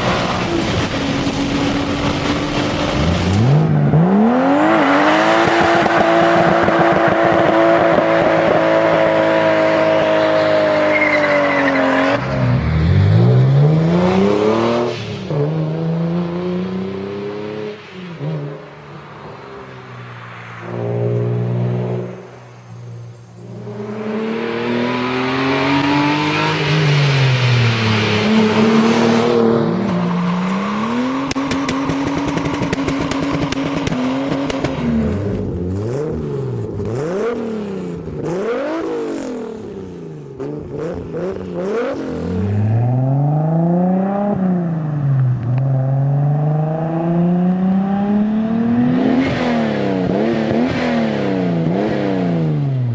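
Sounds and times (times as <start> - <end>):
car engine revving and accelerating: 0.0 - 18.8, 19.5 - 52.9.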